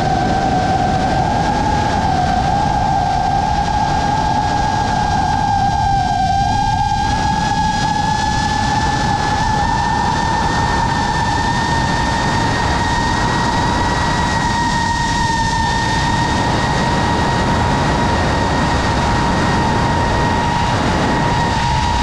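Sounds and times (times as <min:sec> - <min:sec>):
drone motors and propellers whining: 0:00.0 - 0:22.0
wind rushing over microphone: 0:00.0 - 0:22.0.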